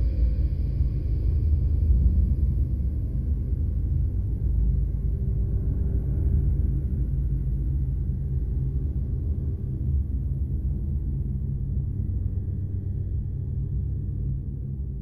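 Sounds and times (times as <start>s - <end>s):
low ambient drone: 0.0s - 15.0s.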